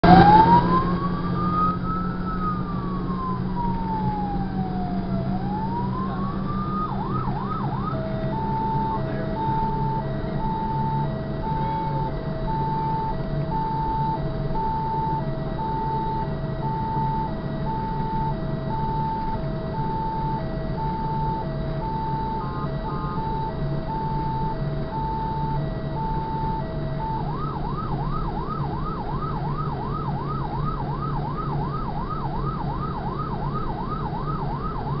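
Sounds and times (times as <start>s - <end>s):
engine and road drone: 0.0s - 35.0s
fire engine siren: 0.0s - 35.0s.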